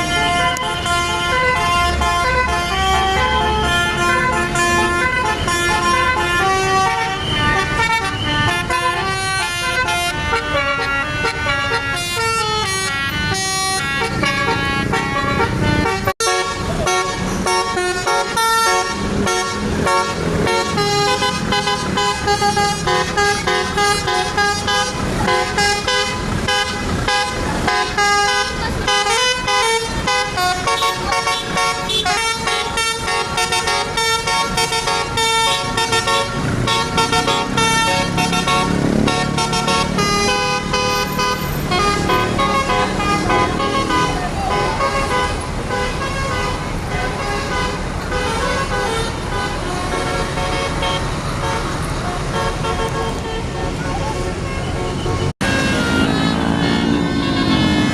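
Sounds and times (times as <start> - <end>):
bus horns playing melodies: 0.0 - 57.9.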